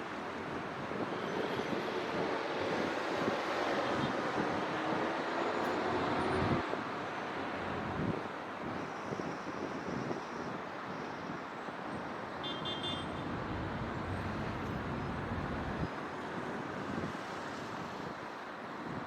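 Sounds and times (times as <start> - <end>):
city traffic: 0.0 - 19.0.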